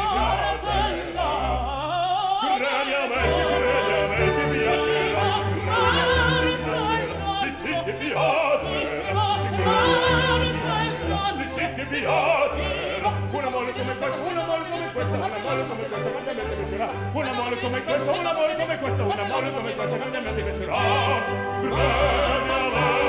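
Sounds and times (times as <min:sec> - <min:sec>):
opera singing voices: 0:00.0 - 0:23.0
orchestra playing: 0:03.1 - 0:23.0.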